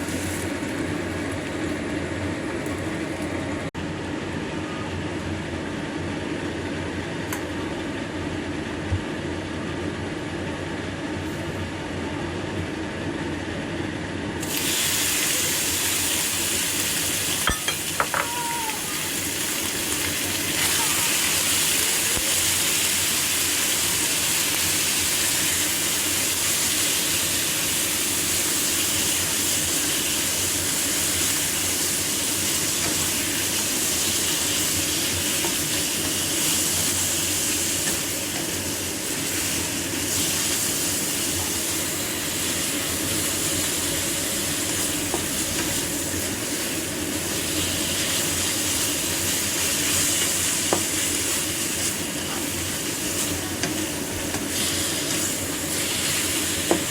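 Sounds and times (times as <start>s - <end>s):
food sizzling in a pan: 0.0s - 3.3s, 14.4s - 56.9s.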